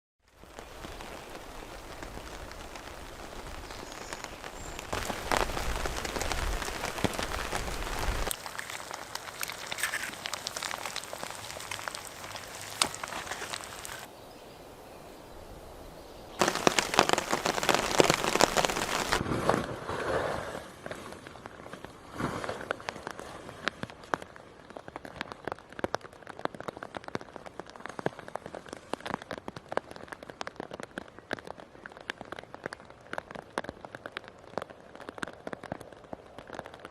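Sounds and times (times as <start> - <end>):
steady rain with drop clicks: 0.2 - 14.1, 16.3 - 19.2, 22.6 - 36.9.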